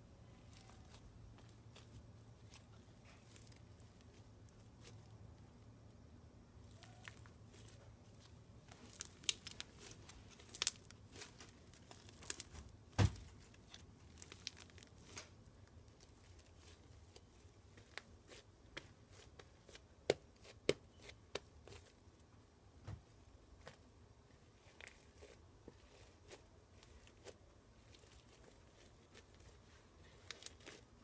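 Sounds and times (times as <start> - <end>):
crunchy slime crackling: 0.2 - 5.4, 6.6 - 22.2, 23.5 - 31.0.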